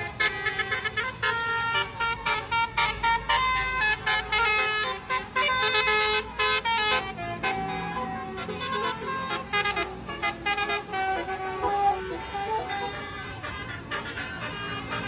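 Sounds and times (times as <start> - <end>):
musical bus air horn: 0.0 - 15.0.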